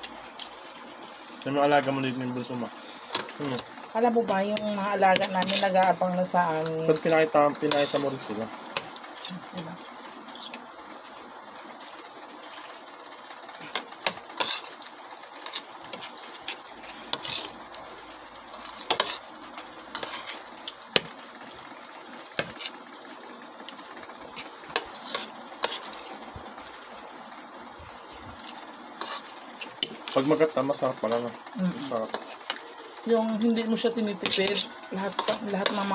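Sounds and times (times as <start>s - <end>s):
background whir: 0.0s - 35.9s.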